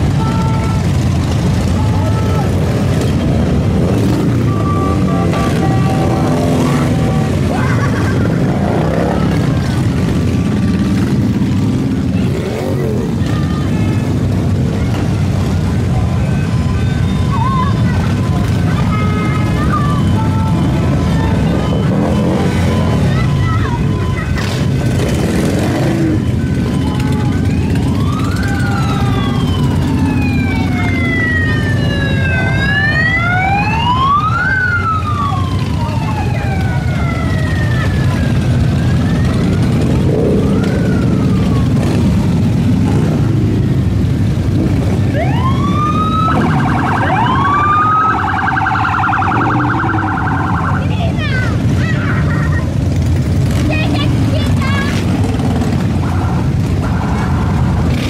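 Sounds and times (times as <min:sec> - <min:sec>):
motorcycles passing: 0:00.0 - 0:58.0
siren wailing: 0:00.0 - 0:58.0.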